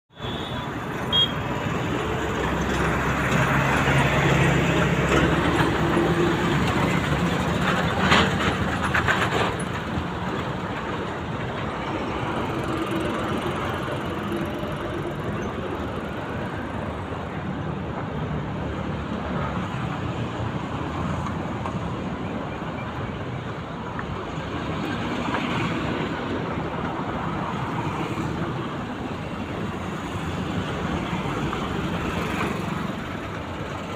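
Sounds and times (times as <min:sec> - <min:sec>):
road traffic noise: 0:00.1 - 0:33.9.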